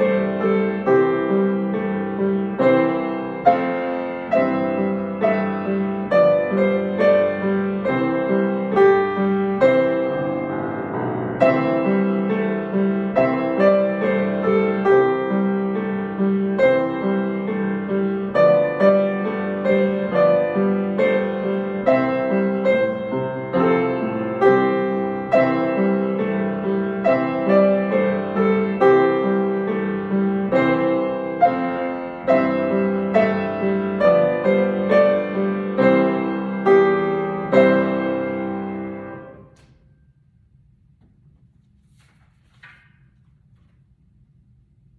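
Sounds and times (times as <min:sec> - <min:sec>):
solo piano melody: 0:00.0 - 0:44.9.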